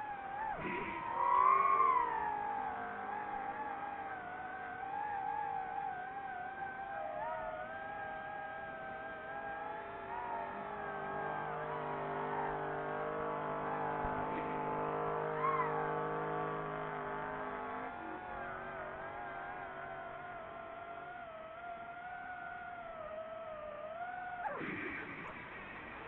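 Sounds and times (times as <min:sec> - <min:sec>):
drone propeller motors whining: 0:00.0 - 0:26.0.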